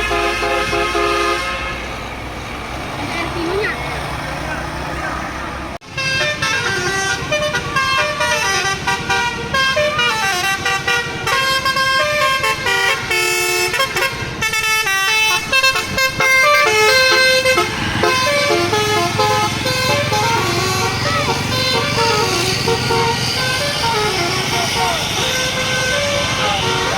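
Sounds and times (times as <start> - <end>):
bus horn playing a tune: 0.0 - 2.2, 4.6 - 26.9.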